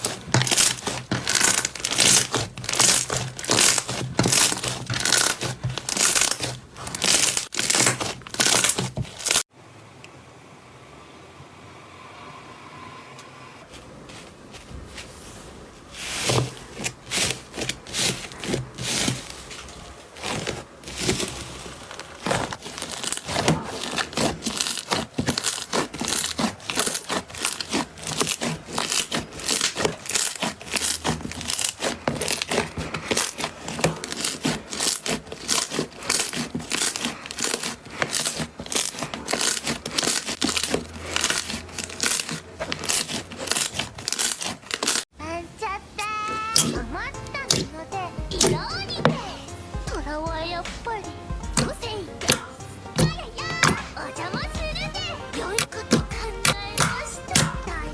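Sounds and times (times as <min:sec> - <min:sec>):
slime crackling and popping: 0:00.0 - 0:09.5, 0:16.2 - 0:45.1, 0:46.6 - 0:50.0, 0:50.8 - 0:57.9.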